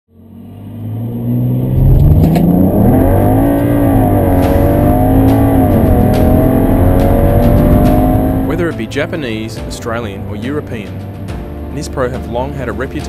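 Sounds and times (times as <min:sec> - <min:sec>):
car engine revving: 0:00.1 - 0:13.0.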